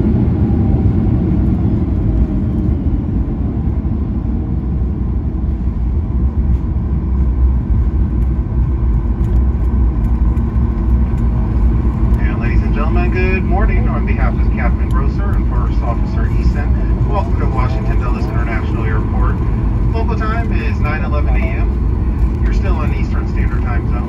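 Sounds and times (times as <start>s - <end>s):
jet engines idling: 0.0s - 24.0s
low rumble of wheels and airframe: 0.0s - 24.0s.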